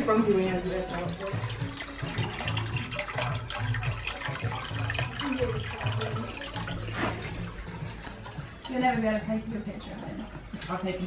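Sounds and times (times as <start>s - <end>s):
water splashing and bubbling: 0.0s - 11.0s.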